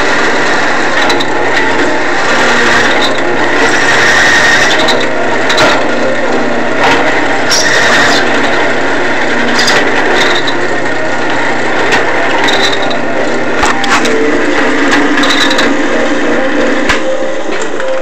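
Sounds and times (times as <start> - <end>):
drill press boring metal: 0.0 - 18.0.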